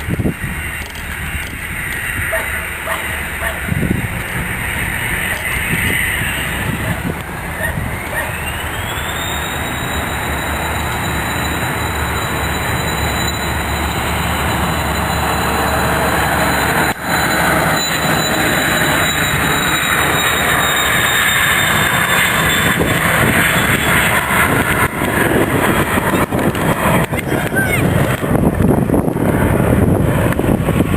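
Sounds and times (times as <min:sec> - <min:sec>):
high engine whine: 0:00.0 - 0:30.9
jet engines at high power: 0:00.0 - 0:30.9.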